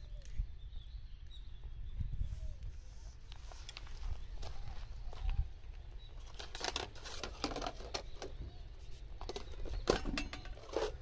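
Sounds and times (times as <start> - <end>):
fire pops and crackles: 0.0 - 11.0.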